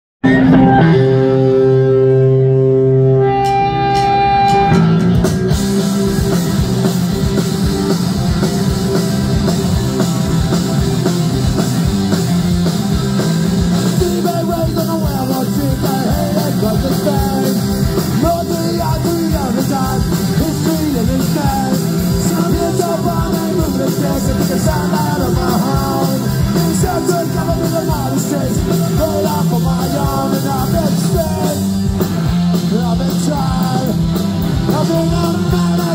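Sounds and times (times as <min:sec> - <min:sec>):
punk rock band playing live: 0:00.2 - 0:35.9
drums beating: 0:03.3 - 0:35.9.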